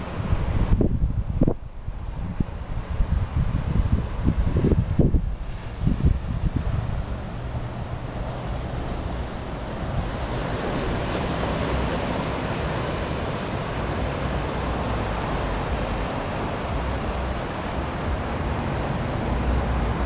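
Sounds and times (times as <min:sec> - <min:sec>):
surf washing over rocks: 0:00.0 - 0:20.0
wind on microphone: 0:00.0 - 0:20.0.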